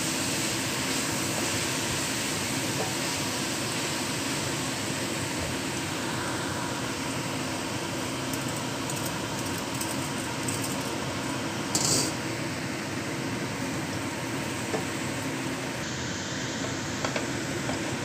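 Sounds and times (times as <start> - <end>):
vegetables sizzling in a wok: 0.0 - 18.0.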